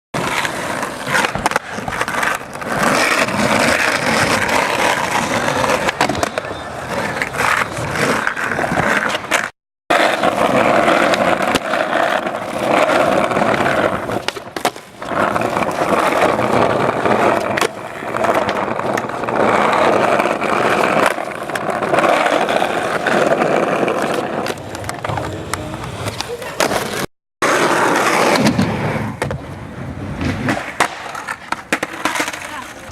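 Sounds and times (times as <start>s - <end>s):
skateboard clacks: 0.2s - 32.9s
skateboard wheels rolling on pavement: 0.2s - 32.9s.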